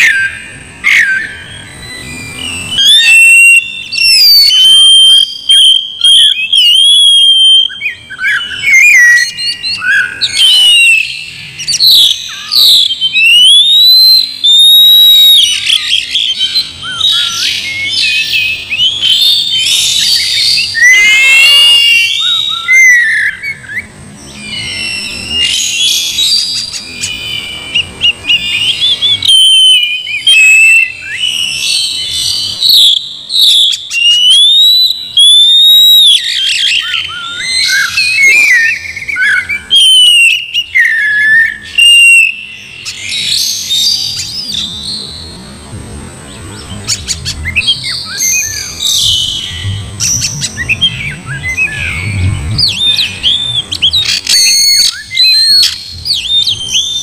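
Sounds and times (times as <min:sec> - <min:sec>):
bird singing whistled phrases: 0:00.0 - 0:45.4, 0:46.3 - 0:57.0.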